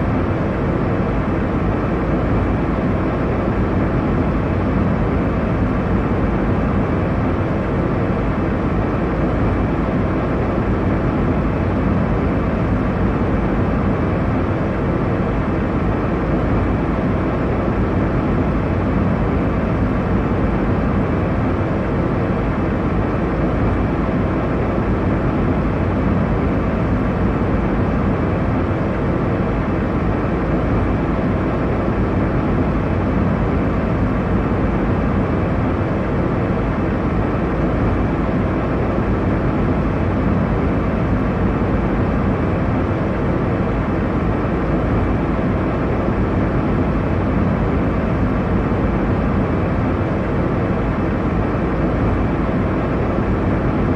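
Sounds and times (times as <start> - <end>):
airliner cabin engine roar: 0.0 - 53.9.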